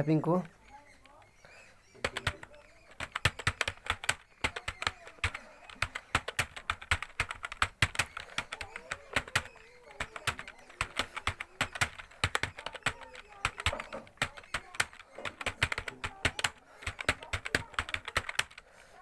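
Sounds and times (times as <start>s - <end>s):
fast typing on computer keyboard: 0.6s - 19.0s.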